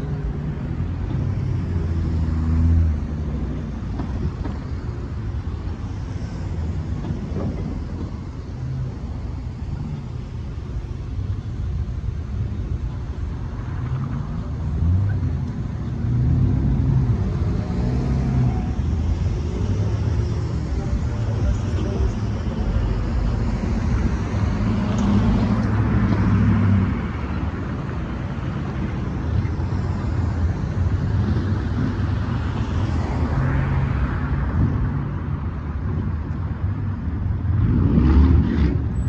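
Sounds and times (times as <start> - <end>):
cars driving over railroad crossing: 0.0 - 39.0.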